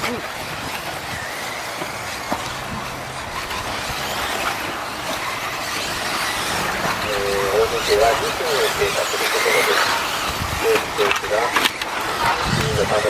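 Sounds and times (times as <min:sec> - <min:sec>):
faint motor whine: 0:00.0 - 0:13.0
rc car motors whirring: 0:00.0 - 0:13.0.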